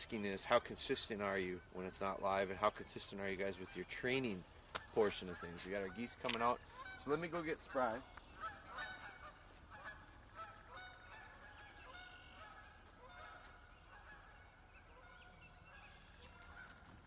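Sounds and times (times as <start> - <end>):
geese honking: 0.3 - 17.0.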